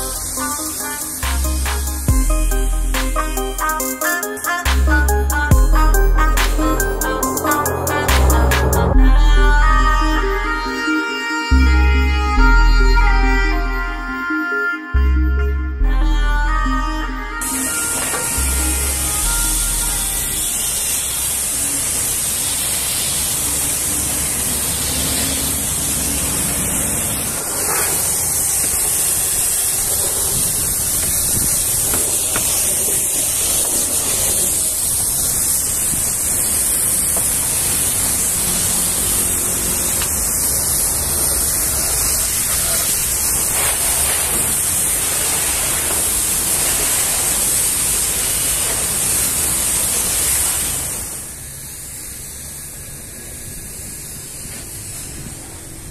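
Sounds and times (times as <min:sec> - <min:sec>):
pressure washer spraying water: 0:00.0 - 0:11.2, 0:17.4 - 0:55.9.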